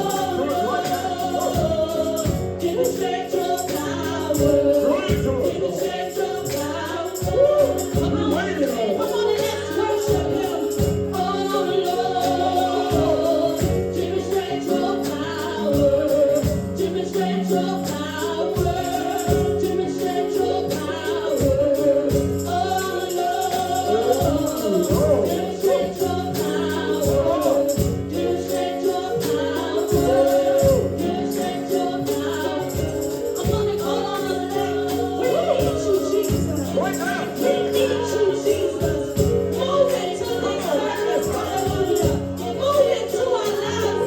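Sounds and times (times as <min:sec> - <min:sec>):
gospel worship music: 0:00.0 - 0:44.0
tambourine: 0:00.0 - 0:44.0
voices singing: 0:00.0 - 0:44.0.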